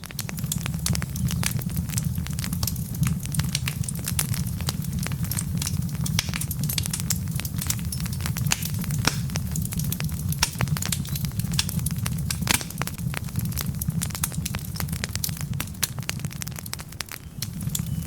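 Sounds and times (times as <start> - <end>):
flames rumbling: 0.0 - 18.0
logs crackling and popping: 0.0 - 18.0.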